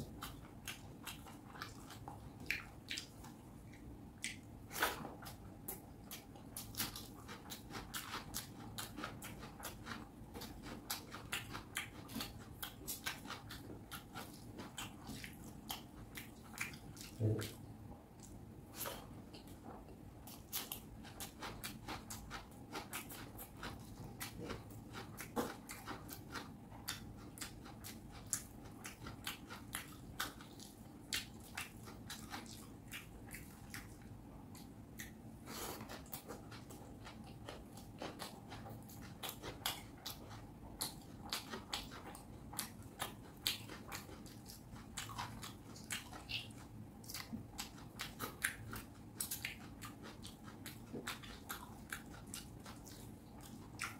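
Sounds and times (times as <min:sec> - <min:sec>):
close-up chewing: 0:00.0 - 0:53.9.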